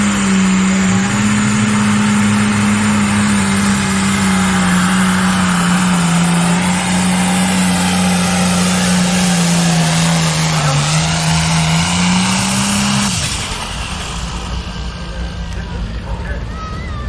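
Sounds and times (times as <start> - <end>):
tractor diesel engine revving high: 0.0 - 17.0.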